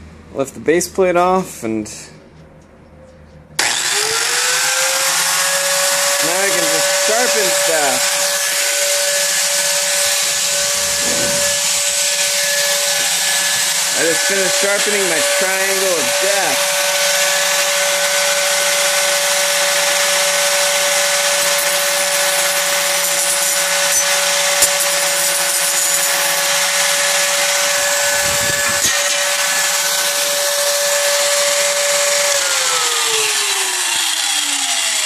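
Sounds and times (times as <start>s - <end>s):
grinder motor whining: 3.6s - 35.0s.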